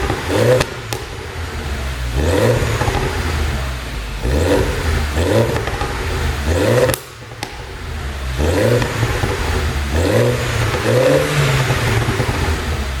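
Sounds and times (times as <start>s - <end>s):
car engine revving: 0.0s - 13.0s
sharp exhaust pops: 0.0s - 13.0s.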